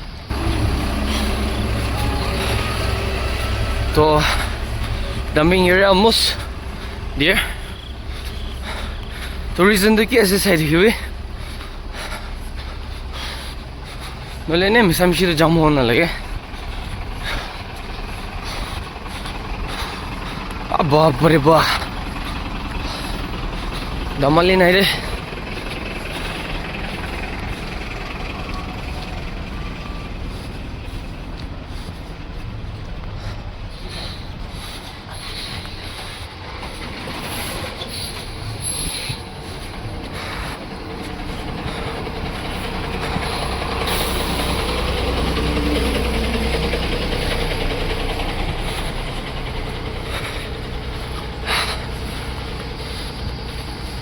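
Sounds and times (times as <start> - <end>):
road rumble on rough road: 0.0 - 54.0
truck engines running: 0.0 - 54.0.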